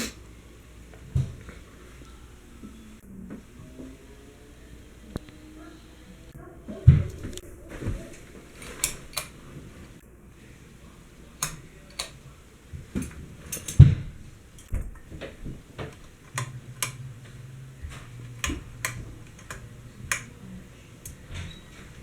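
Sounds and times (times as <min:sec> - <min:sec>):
fan motor hum: 0:00.0 - 0:22.0
ceiling fan clicks: 0:00.5 - 0:22.0.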